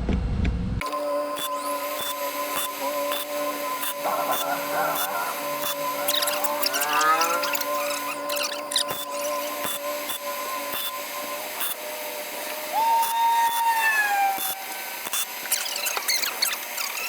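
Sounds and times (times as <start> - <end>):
power tool motor whining: 0.8 - 17.0.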